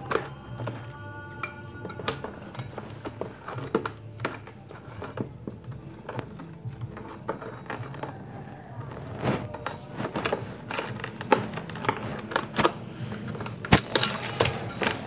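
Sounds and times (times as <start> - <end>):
scouring pad scraping metal: 1.9 - 15.0.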